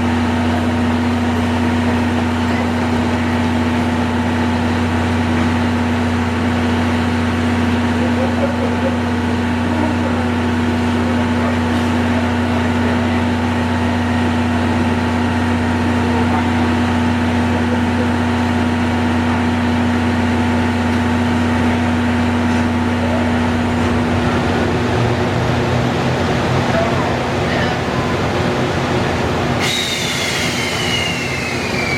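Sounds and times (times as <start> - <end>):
train mechanical hum: 0.0 - 31.9.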